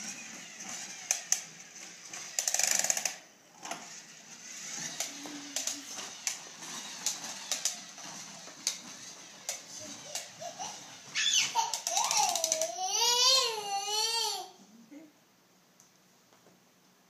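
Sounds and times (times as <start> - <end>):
toy truck rolling on wooden floor: 0.0 - 14.4.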